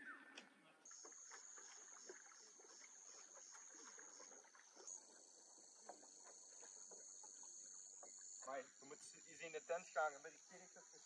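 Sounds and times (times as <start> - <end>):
insects trilling: 0.9 - 11.0.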